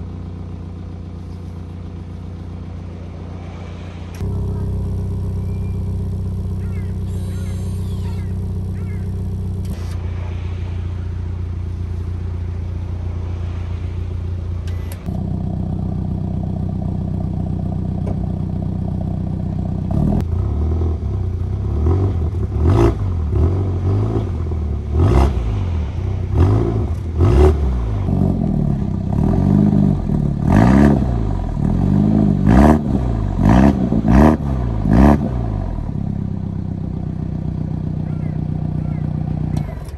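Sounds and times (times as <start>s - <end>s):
car engine idling: 0.0s - 39.9s
car engine revving: 0.0s - 39.9s.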